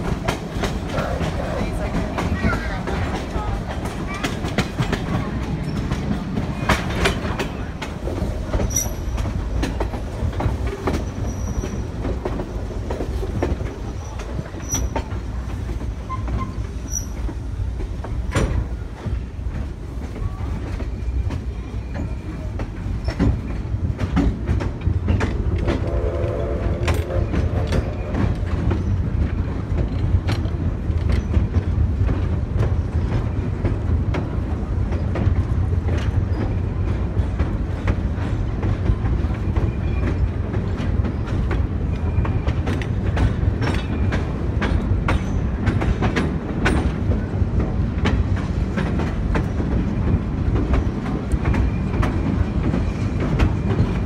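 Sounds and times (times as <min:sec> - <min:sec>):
train rumble: 0:00.0 - 0:54.0
wheels clicking over rail joints: 0:00.0 - 0:54.0.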